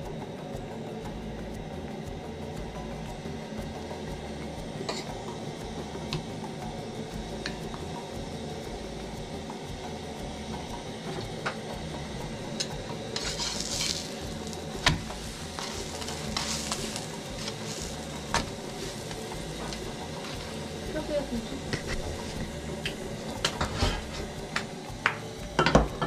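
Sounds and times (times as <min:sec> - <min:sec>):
butter sizzling in a pan: 0:02.4 - 0:26.0.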